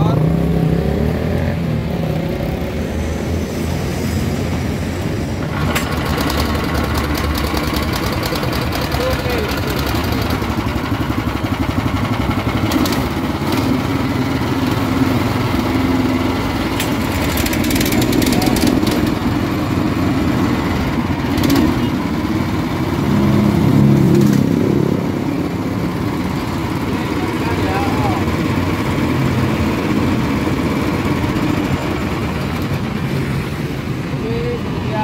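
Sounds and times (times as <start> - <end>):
small engine running: 5.4 - 33.7.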